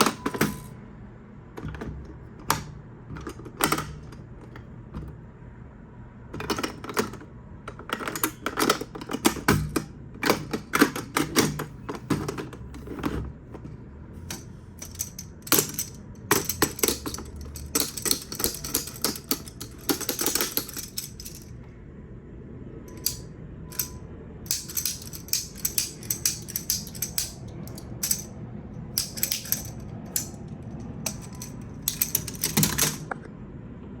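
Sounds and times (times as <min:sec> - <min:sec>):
small toy parts clicking and clattering: 0:00.0 - 0:00.7, 0:01.6 - 0:05.2, 0:06.4 - 0:21.5, 0:22.9 - 0:33.2.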